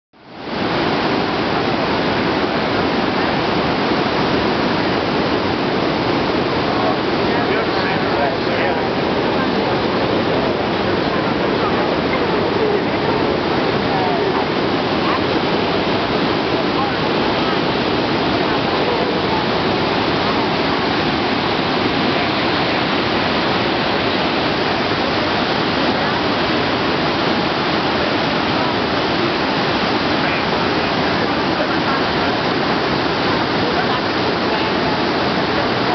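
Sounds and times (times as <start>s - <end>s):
water rushing through spillway: 0.2s - 35.9s.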